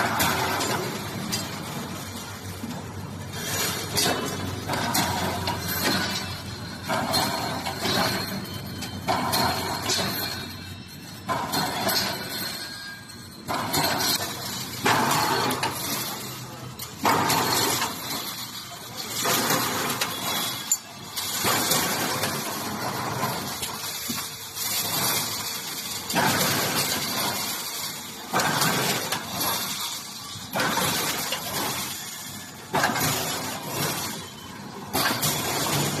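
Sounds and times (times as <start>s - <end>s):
mechanical rattle: 0.0s - 36.0s
welding machine clattering: 0.0s - 36.0s.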